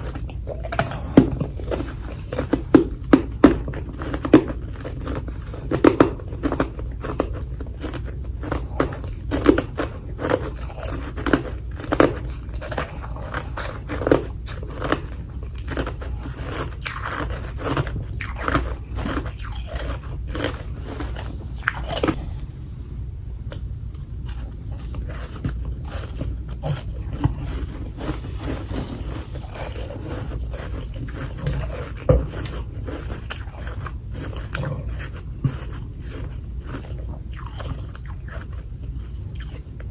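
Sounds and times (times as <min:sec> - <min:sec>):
soft chewing: 0:00.0 - 0:39.9
steady low hum: 0:00.0 - 0:39.9.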